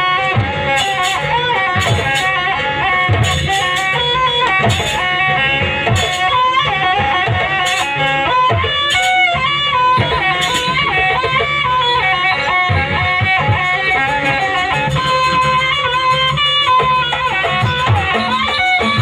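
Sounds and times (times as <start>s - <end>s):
steady drumming: 0.0s - 19.0s
high melody line: 3.7s - 19.0s.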